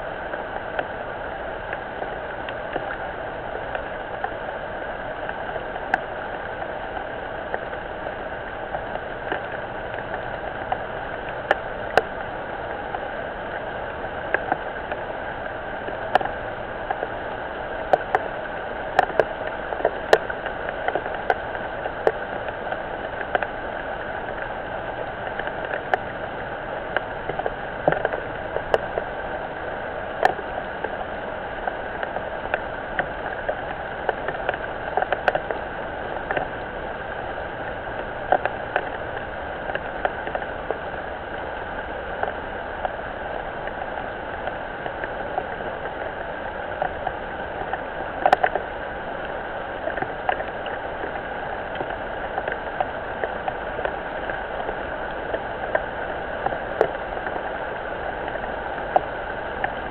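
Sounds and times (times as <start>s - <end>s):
rain falling on pond: 0.0s - 59.9s
sharp drips and plinks: 0.3s - 59.9s.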